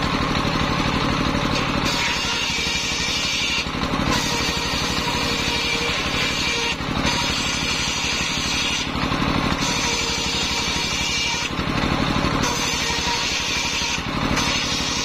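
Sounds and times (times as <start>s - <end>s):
saw engine running: 0.0s - 15.0s
saw blade cutting wood: 1.3s - 15.0s.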